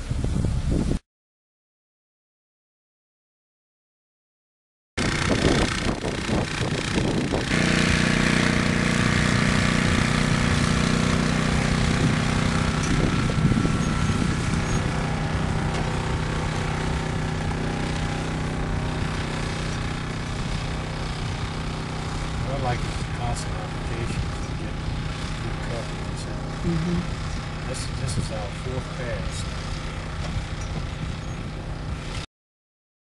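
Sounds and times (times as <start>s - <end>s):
spray rig engine running: 5.0s - 32.3s.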